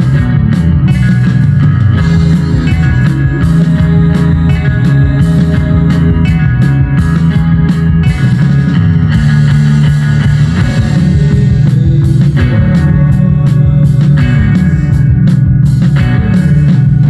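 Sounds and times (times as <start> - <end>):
drum kit: 0.0 - 17.0
electric guitar: 0.0 - 17.0
fingerpicked electric bass: 0.0 - 17.0.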